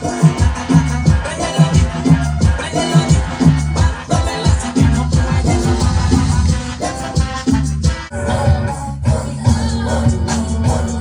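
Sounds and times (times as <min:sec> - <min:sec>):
music with bass-heavy beat: 0:00.0 - 0:11.0.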